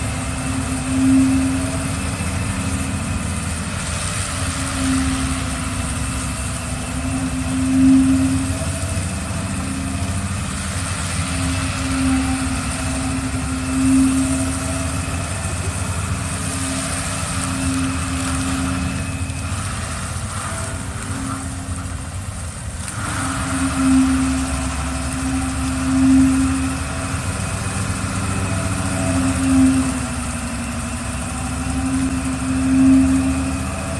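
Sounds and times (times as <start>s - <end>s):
machine engine humming: 0.0s - 33.9s.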